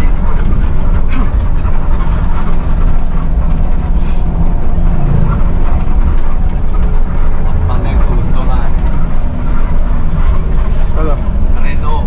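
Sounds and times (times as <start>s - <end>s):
bus engine drone: 0.0s - 12.0s
road rumble: 0.0s - 12.0s.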